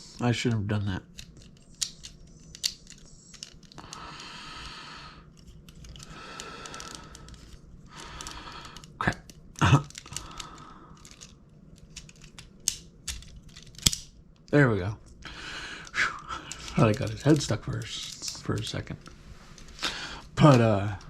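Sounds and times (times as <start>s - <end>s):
plastic toy clicks and rubbing: 1.0s - 4.6s, 5.2s - 14.1s, 15.8s - 21.0s.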